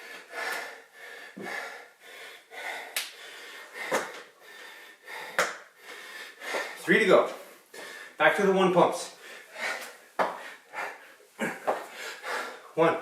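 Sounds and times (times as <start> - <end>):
man breathing hard: 0.0 - 8.2, 9.1 - 12.8.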